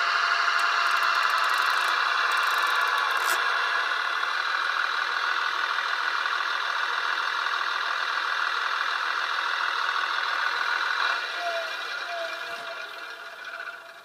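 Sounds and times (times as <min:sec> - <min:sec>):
diesel engine idle from small speaker: 0:00.0 - 0:14.0.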